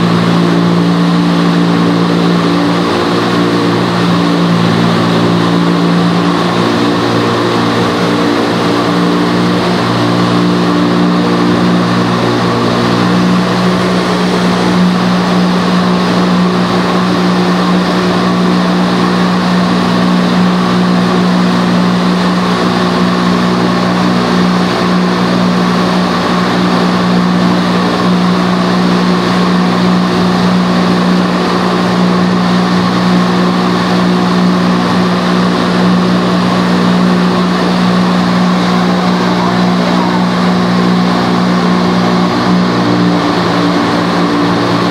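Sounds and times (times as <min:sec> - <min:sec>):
big fans humming: 0:00.0 - 0:44.9
rushing air column: 0:00.0 - 0:44.9.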